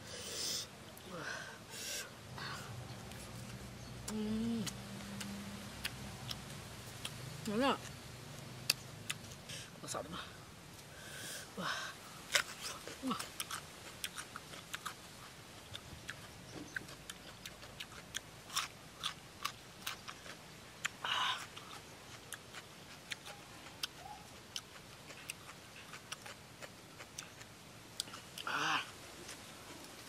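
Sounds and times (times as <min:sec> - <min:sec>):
crunchy chewing of vegetable: 0:02.4 - 0:09.7, 0:12.0 - 0:30.0.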